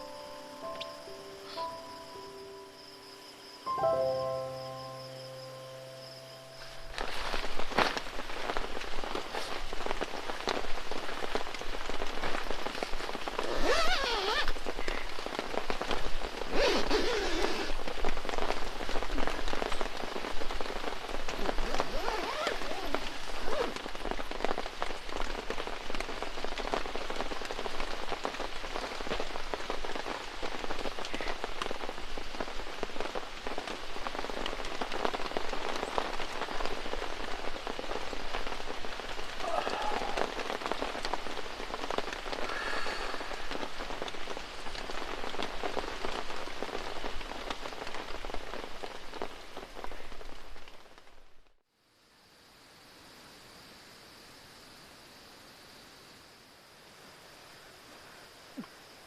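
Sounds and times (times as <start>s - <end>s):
rain falling: 0.0s - 4.3s, 5.7s - 59.0s.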